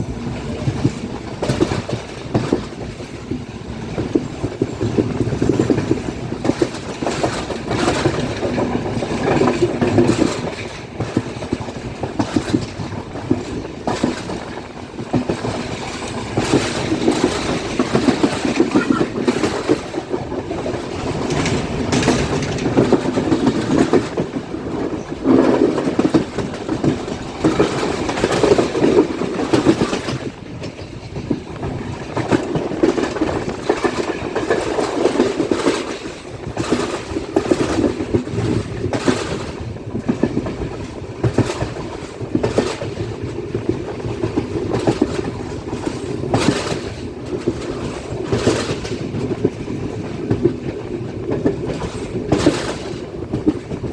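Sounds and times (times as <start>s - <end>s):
train rumbling: 0.0s - 53.9s
wheels clacking over rail joints: 0.0s - 53.9s.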